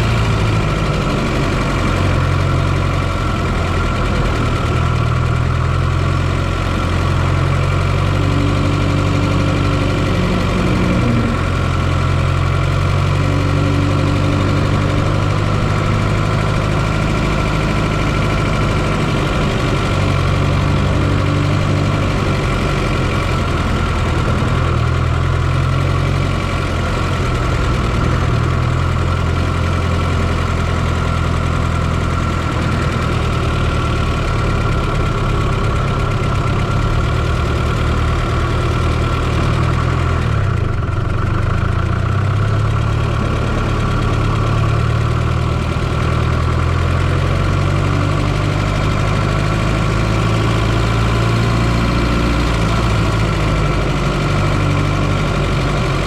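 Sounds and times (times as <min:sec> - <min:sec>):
car engine running: 0:00.0 - 0:56.0
high engine whine: 0:00.0 - 0:56.0.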